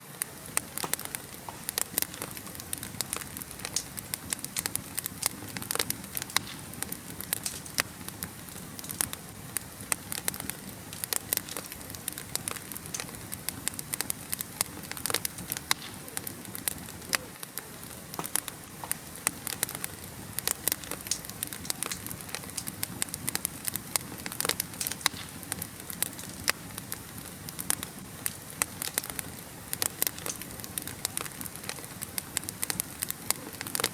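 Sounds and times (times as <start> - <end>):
fire crackling and popping: 0.0 - 33.9
fire hissing: 0.0 - 33.9.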